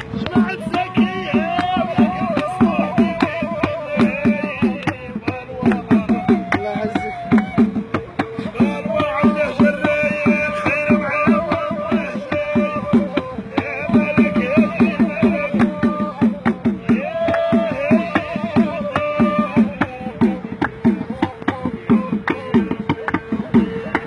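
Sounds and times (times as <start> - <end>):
fast hand drum beat: 0.0 - 24.0
reed flute playing ornamented melody: 0.0 - 24.0.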